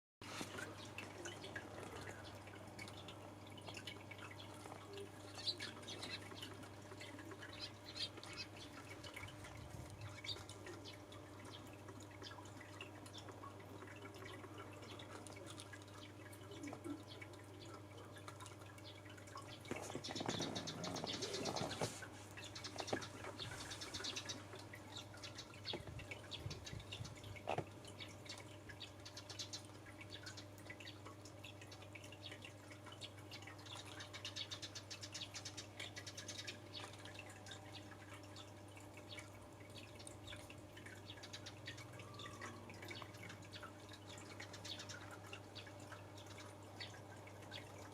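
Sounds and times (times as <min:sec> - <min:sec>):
faint steady hum: 0:00.2 - 0:47.9
sparrows chirping: 0:00.5 - 0:09.3, 0:10.0 - 0:47.9.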